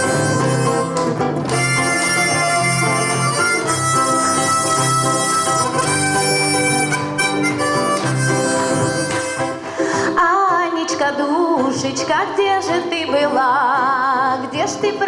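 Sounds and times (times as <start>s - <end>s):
country style instrumental music: 0.0s - 15.0s.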